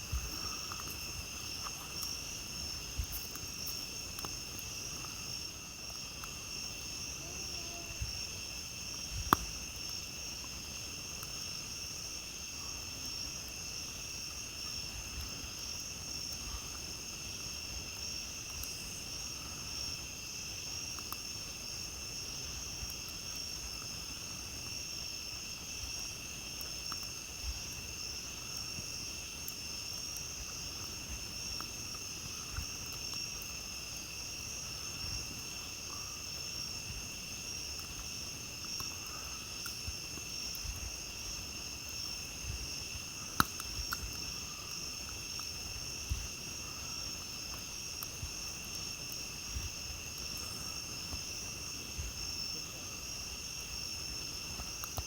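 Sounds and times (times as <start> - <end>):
campfire crackles and pops: 0.0 - 55.0
night insects trilling: 0.0 - 55.0.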